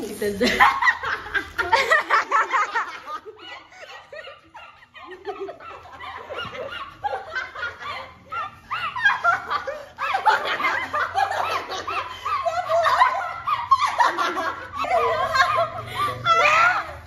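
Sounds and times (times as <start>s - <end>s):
young women laughing: 0.0s - 17.0s.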